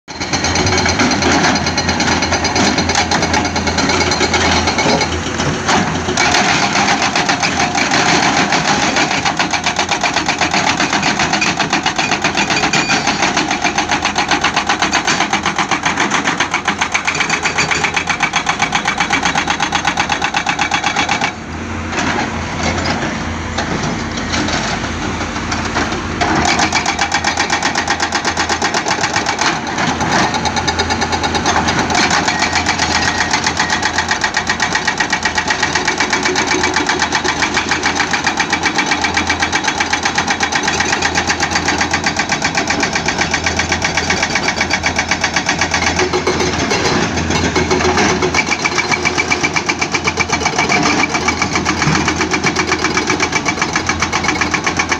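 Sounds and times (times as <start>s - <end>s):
hydraulic breaker hammering rock: 0.1s - 21.4s, 25.2s - 54.9s
excavator engine running: 0.1s - 54.9s.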